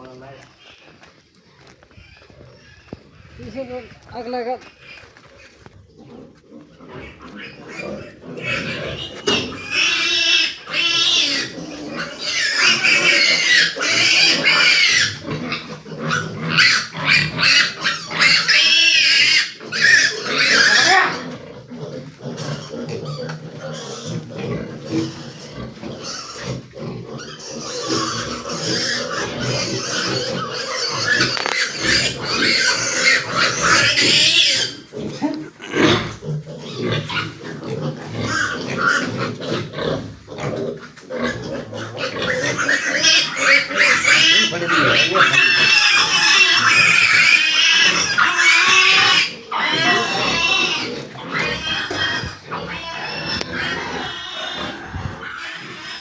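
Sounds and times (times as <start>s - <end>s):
pigs grunting and squealing: 0.0s - 56.0s.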